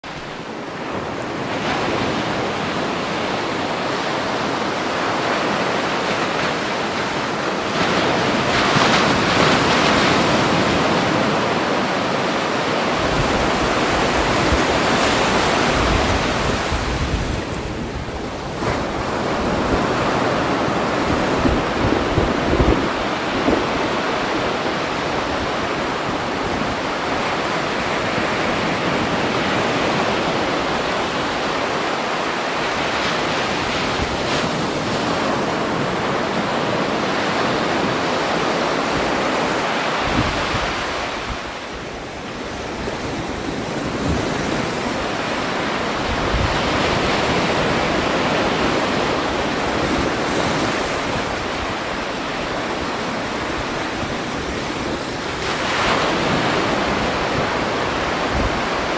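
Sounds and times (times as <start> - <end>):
wind buffeting microphone: 0.3 - 58.9.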